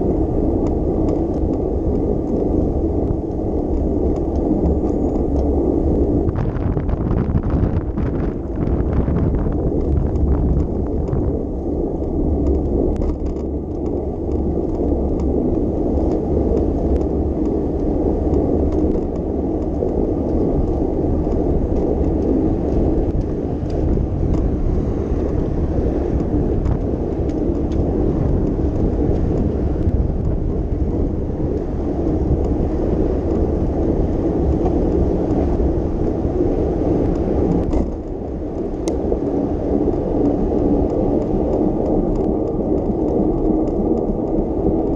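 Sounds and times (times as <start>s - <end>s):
bicycle rumble: 0.0s - 44.9s
wind on microphone: 0.0s - 44.9s
faint clicks and rattles: 0.5s - 44.9s.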